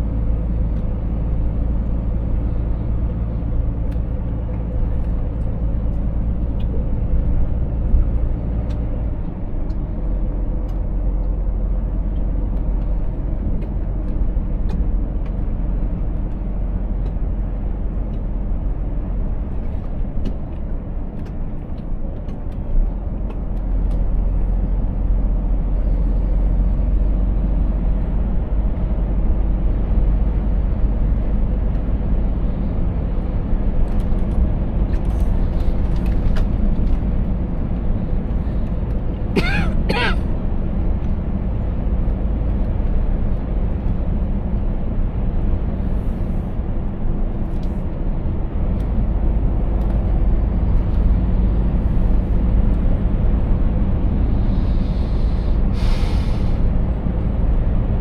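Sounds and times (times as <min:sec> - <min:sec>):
deep road rumble: 0:00.0 - 0:58.0
truck diesel engine drone: 0:00.0 - 0:58.0.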